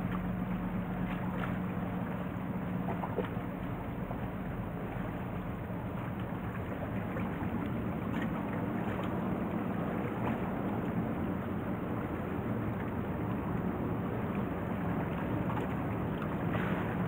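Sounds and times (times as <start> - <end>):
ferry engines rumbling: 0.0 - 17.0
water lapping: 0.0 - 17.0.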